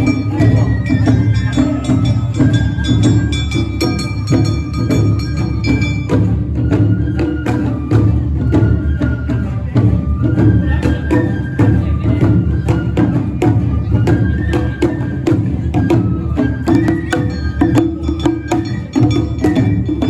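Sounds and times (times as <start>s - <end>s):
bamboo flute melody: 0.0s - 20.0s
drums beating fast rhythm: 0.0s - 20.0s.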